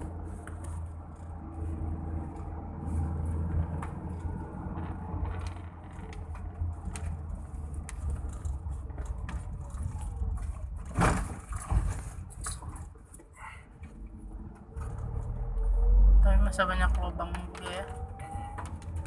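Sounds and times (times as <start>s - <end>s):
car interior road and engine rumble: 0.0s - 19.0s.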